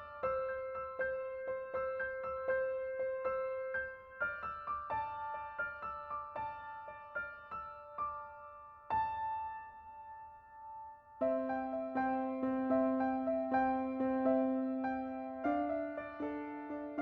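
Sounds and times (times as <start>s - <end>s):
gentle piano notes: 0.0s - 17.0s.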